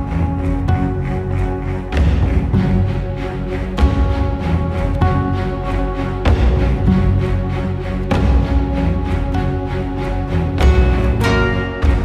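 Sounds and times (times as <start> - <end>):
sustained music chords: 0.0 - 12.0.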